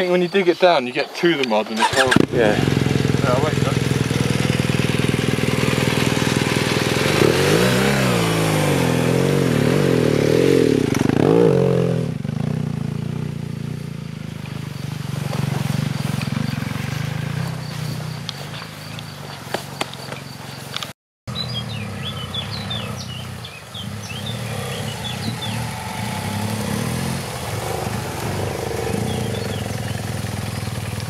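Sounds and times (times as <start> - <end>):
motorcycle engine revving: 1.8 - 31.0.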